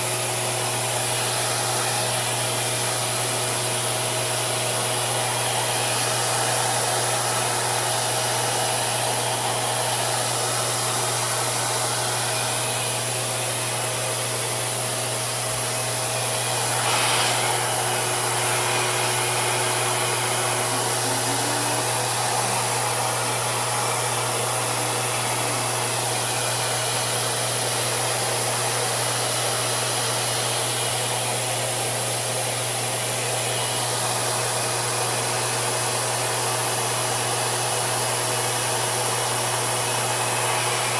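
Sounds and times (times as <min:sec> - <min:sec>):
blow dryer running: 0:00.0 - 0:40.9.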